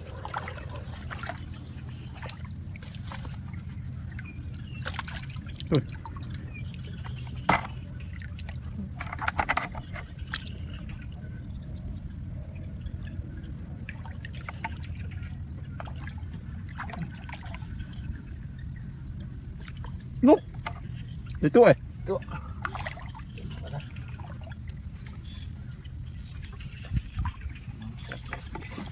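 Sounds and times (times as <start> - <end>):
water trickling: 0.0 - 28.9.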